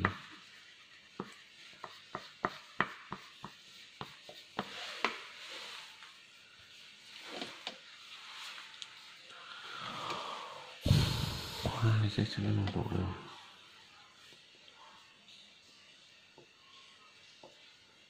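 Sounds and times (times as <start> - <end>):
soft hiss of crayon on paper: 0.0 - 18.0.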